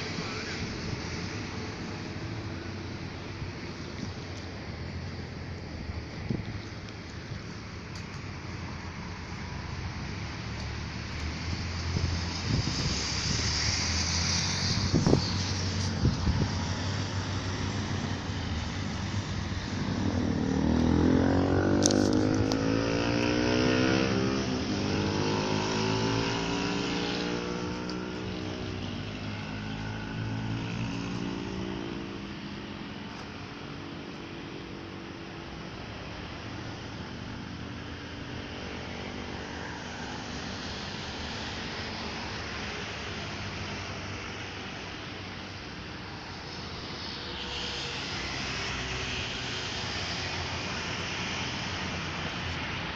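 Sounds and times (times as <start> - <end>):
vehicle passing by: 7.4 - 52.9.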